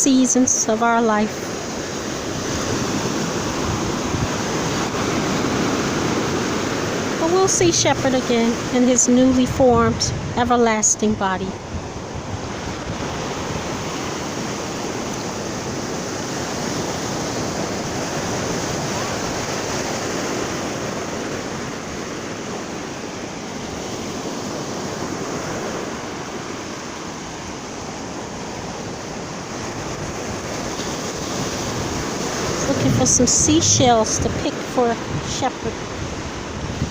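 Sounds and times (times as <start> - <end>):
ocean surf washing ashore: 0.0 - 36.9.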